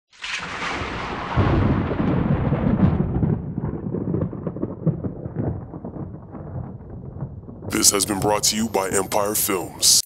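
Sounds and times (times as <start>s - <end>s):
thunder crack: 0.1s - 9.2s
low rumble of thunder: 0.2s - 8.6s.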